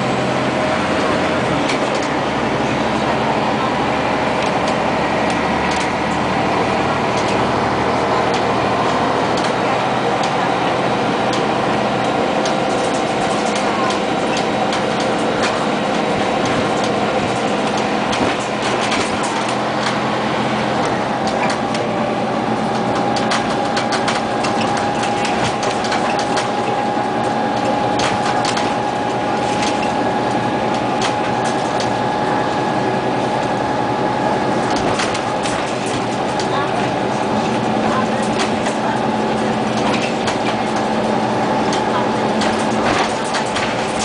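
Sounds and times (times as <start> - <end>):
bus body rattling and clicking: 0.0 - 44.0
bus engine running with whine: 0.0 - 44.0.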